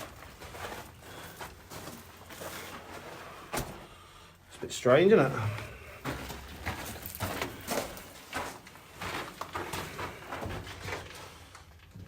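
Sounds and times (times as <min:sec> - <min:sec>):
footsteps in a tunnel: 0:00.0 - 0:04.2, 0:05.3 - 0:12.0.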